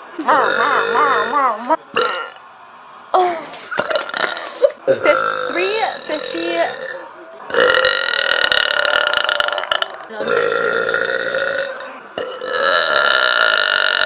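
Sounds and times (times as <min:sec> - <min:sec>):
woman burping: 0:00.2 - 0:02.4, 0:03.8 - 0:14.0.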